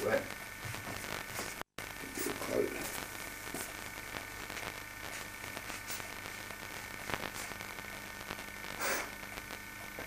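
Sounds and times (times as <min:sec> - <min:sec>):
tape hiss and electrical hum: 0:00.0 - 0:10.0.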